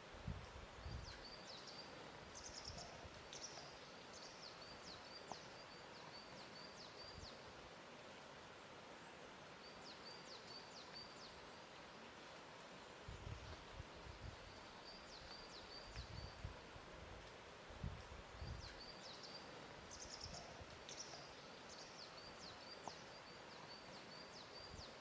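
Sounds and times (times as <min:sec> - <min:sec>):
soft steady hiss: 0:00.0 - 0:25.0.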